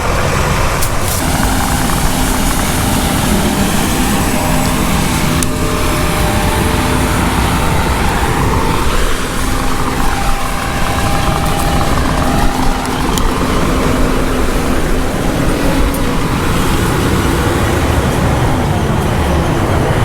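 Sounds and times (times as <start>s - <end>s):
farm machine engine drone: 0.0s - 20.0s.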